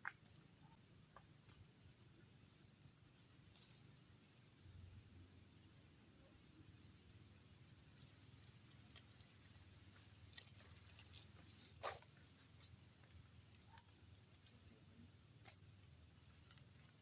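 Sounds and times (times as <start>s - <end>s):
insects chirping: 0.0s - 17.0s
high steady insect trill: 0.2s - 17.0s.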